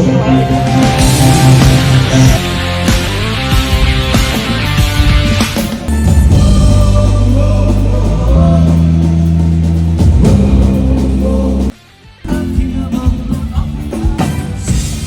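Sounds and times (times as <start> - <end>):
band music with guitar and bass: 0.0 - 15.0.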